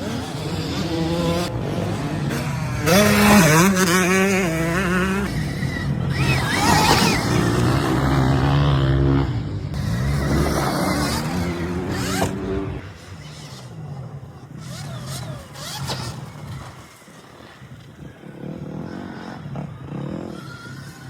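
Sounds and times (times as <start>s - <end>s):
tyres on dirt: 0.0s - 21.0s.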